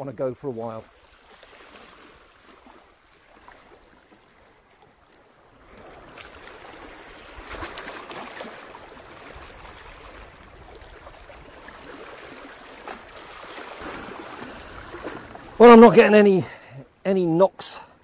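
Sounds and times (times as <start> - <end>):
waves lapping over rocks: 0.6 - 16.4.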